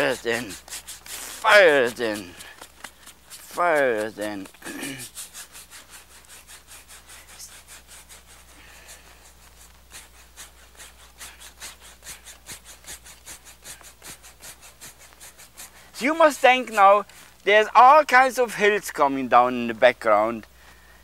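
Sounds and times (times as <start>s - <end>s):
brush scrubbing canvas: 0.0s - 17.4s.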